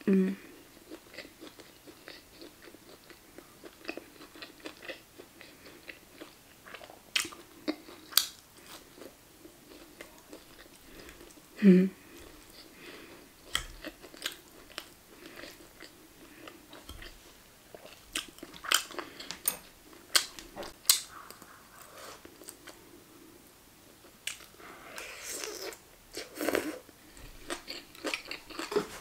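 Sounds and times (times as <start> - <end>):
wet chewing and crunching: 0.8 - 11.5, 12.1 - 22.9, 25.4 - 29.0.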